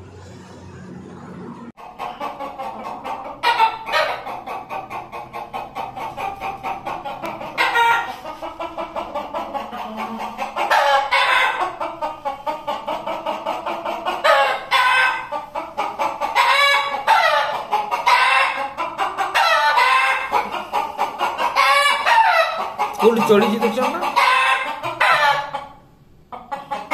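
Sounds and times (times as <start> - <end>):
roosters crowing: 0.0 - 11.8, 12.7 - 25.8.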